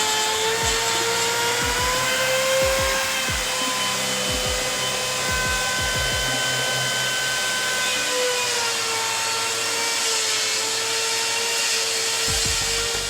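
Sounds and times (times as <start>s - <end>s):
power tool motor whining: 0.0s - 13.0s.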